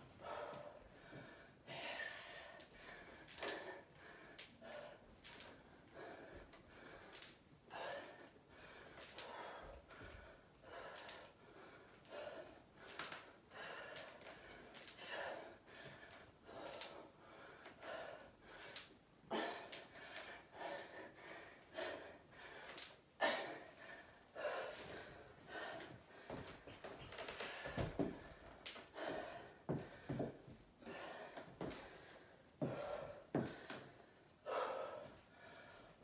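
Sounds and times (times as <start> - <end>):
woman breathing hard: 0.0 - 36.0.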